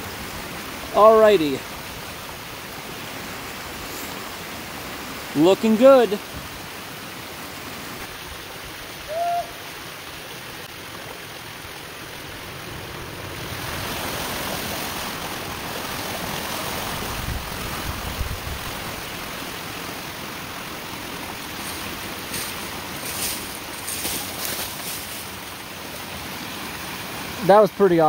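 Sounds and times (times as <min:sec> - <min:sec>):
water rushing through pipe: 0:00.0 - 0:28.0.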